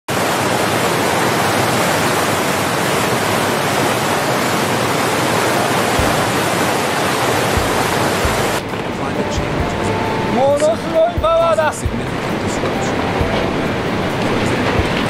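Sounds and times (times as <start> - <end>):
water rushing: 0.1 - 15.0.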